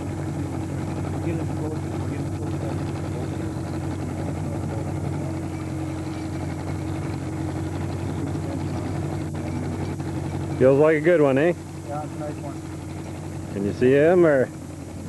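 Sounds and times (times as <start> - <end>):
outboard motor humming: 0.0 - 15.0.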